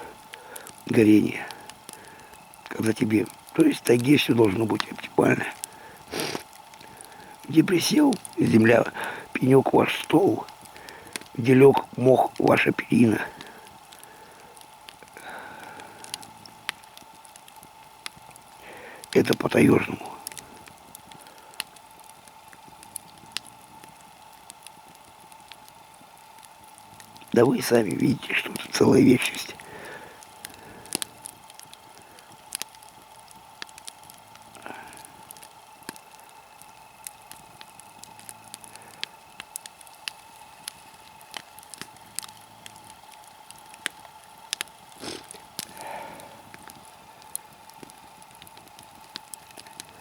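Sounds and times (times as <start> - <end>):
campfire coals crackling: 0.0 - 50.0
faint steady hum: 0.0 - 50.0.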